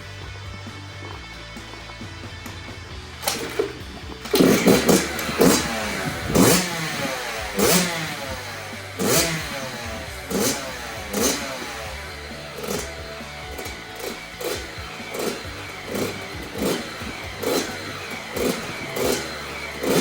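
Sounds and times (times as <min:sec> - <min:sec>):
two-stroke engine revving: 0:00.0 - 0:20.0.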